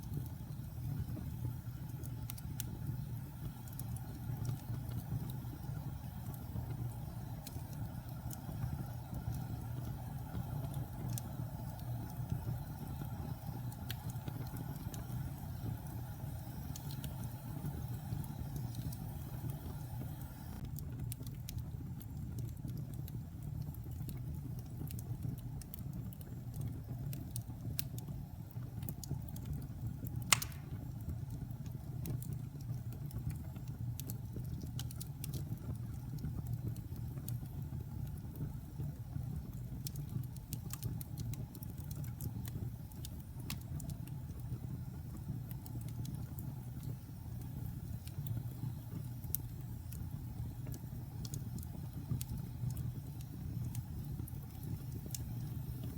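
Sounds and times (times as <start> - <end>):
fire crackles and pop: 0.0 - 55.9
wood fire rumbling: 0.0 - 55.9.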